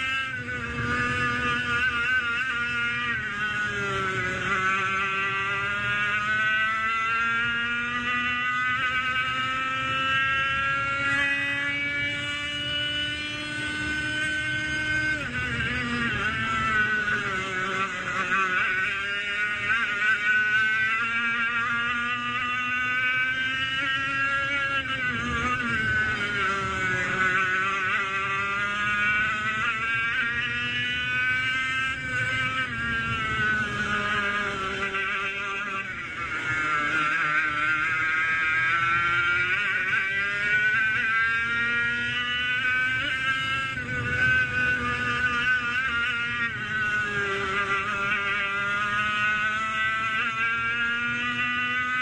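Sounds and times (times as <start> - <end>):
kart engine buzzing at high revs: 0.0 - 52.0.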